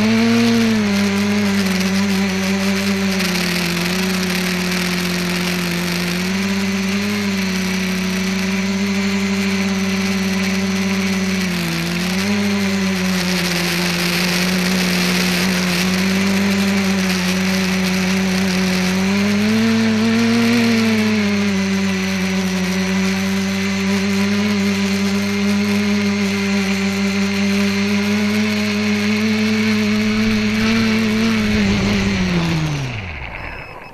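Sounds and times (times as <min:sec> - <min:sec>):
drone propellers buzzing: 0:00.0 - 0:33.9.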